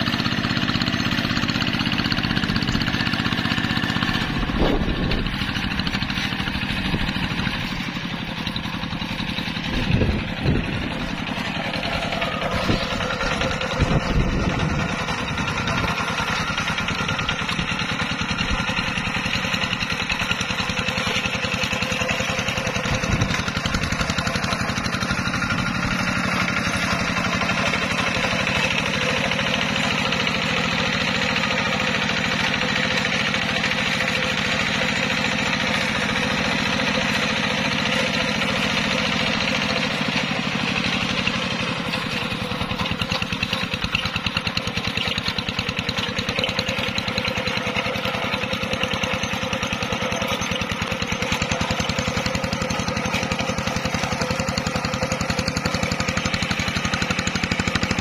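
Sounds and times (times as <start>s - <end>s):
diesel engine running: 0.0s - 58.0s
wheels churning through water: 0.0s - 58.0s.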